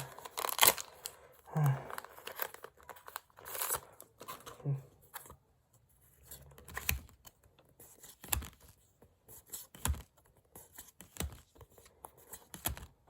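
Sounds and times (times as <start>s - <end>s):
cards rustling: 0.0s - 5.4s, 6.0s - 13.0s.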